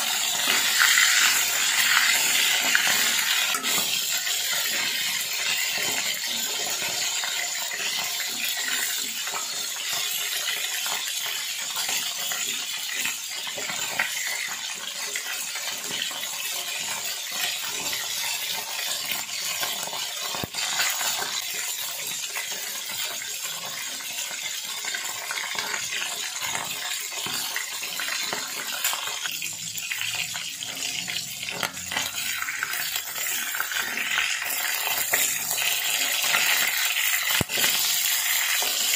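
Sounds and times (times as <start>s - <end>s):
fish sizzling in hot oil: 0.0s - 38.9s.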